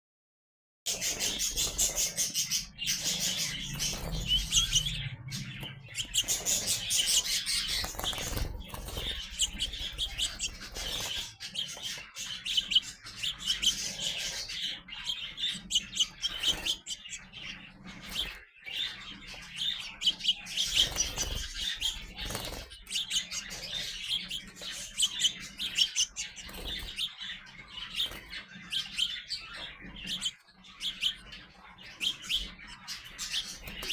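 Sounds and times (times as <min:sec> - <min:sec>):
young sparrows chirping: 0:00.9 - 0:33.9.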